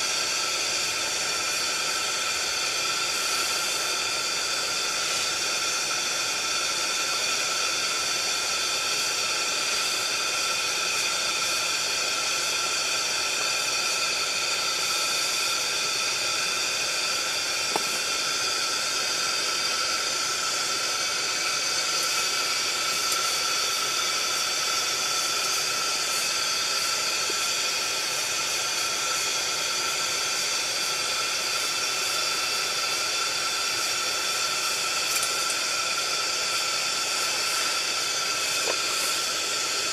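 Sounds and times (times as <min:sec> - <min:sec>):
pressure lantern burner hissing: 0:00.0 - 0:39.9.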